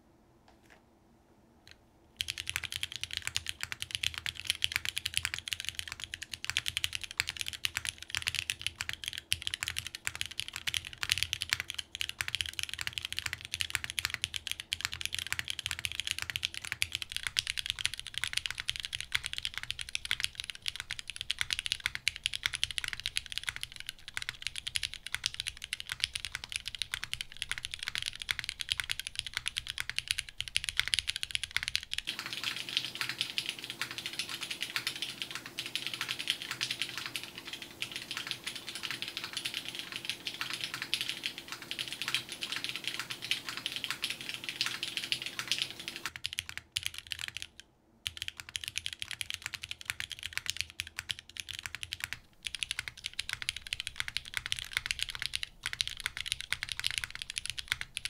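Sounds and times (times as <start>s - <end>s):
fast mechanical keyboard typing: 2.2s - 58.0s.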